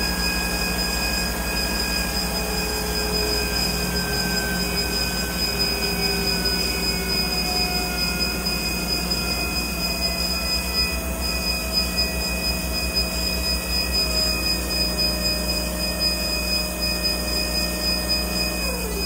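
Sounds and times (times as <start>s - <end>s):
bandsaw humming and whining: 0.0s - 19.0s.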